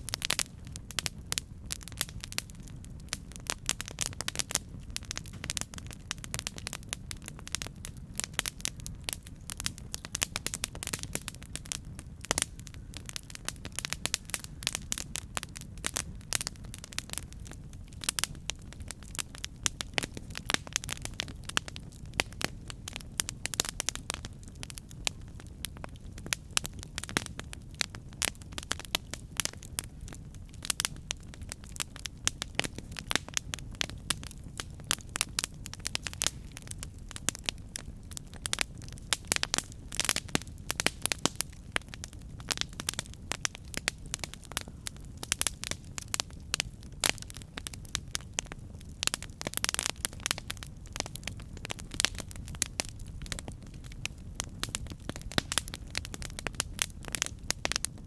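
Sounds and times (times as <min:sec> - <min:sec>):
campfire snaps and pops: 0:00.0 - 0:58.0
low rumble of fire: 0:00.0 - 0:58.0.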